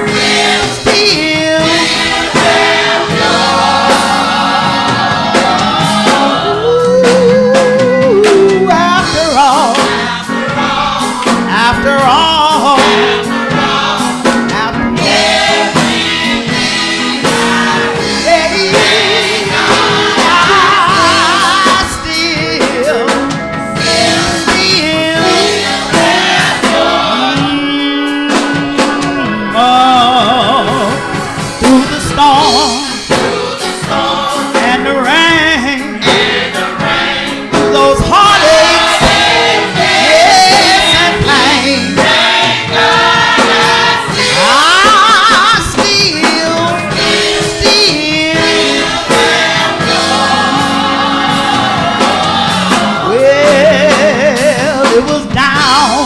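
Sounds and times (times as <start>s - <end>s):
band accompaniment with drums: 0.0s - 56.0s.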